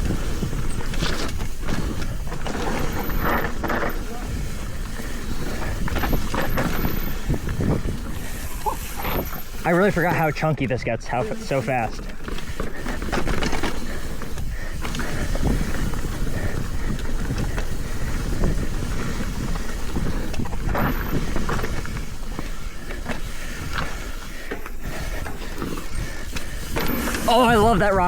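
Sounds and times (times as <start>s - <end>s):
bike clattering: 0.0s - 28.0s.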